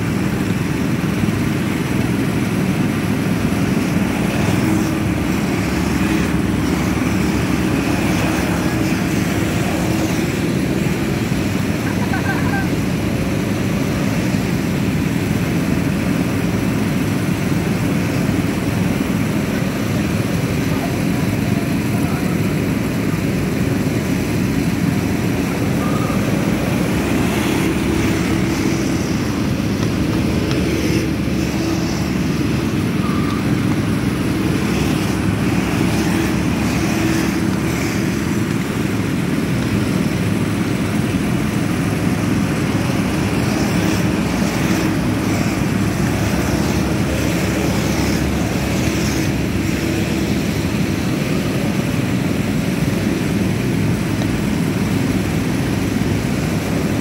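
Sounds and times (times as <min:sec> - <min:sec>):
go-kart engines droning: 0:00.0 - 0:57.0.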